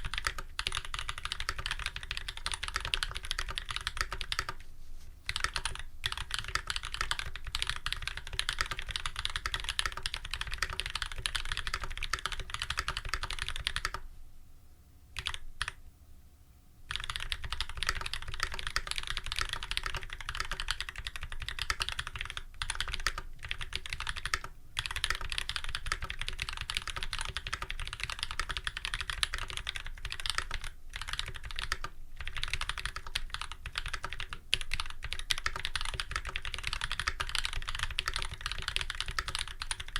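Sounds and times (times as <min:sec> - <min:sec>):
typing on mechanical keyboard: 0:00.0 - 0:04.6, 0:05.3 - 0:14.0, 0:15.2 - 0:15.8, 0:16.9 - 0:39.9.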